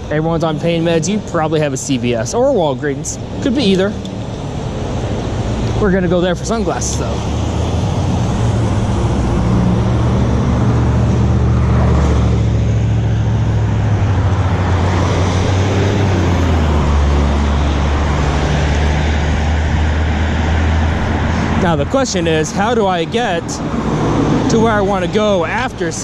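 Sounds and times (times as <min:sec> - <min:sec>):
road and traffic rumble: 0:00.0 - 0:26.0.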